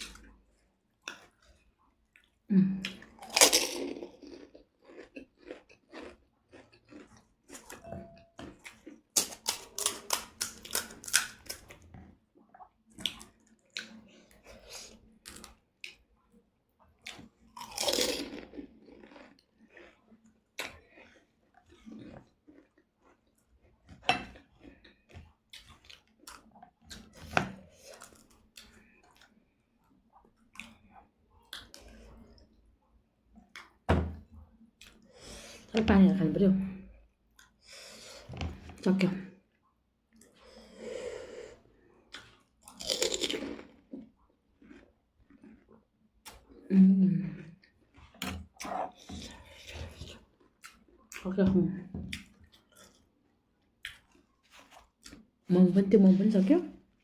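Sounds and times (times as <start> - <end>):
chewing and mouth sounds: 0.0 - 32.6, 33.3 - 35.1, 41.9 - 55.4.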